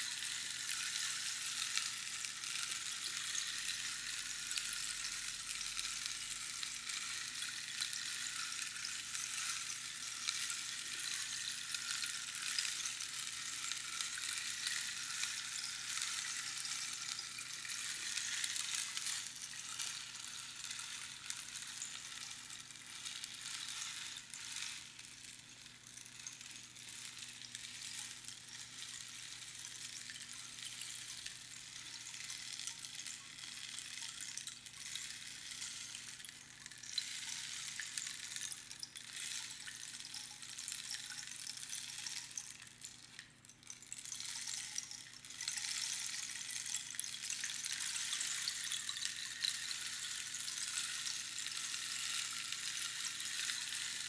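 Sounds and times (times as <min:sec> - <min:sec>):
rainstick pebbles trickling: 0:00.0 - 0:54.0.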